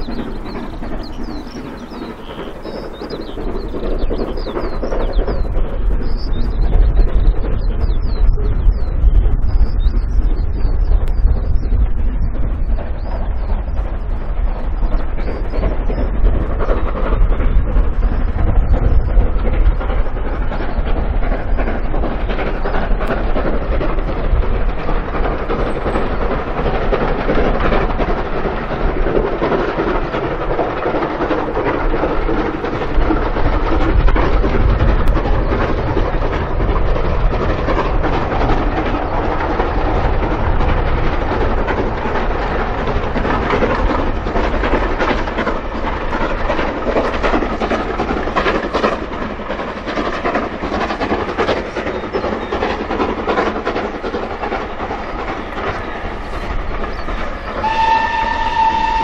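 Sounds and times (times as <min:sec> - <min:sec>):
steam locomotive exhaust: 0:00.0 - 0:59.0
train wheels clattering on rails: 0:00.0 - 0:59.0.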